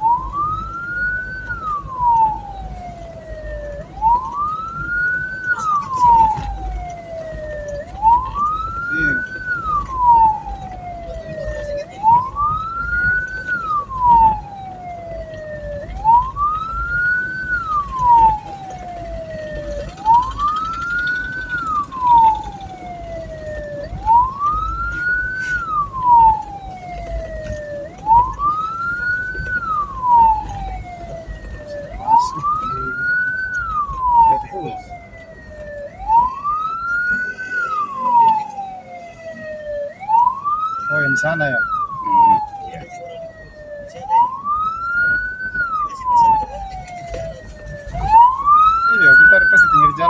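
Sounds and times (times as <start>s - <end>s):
low vehicle rumble: 0.0s - 50.0s
siren wailing: 0.0s - 50.0s.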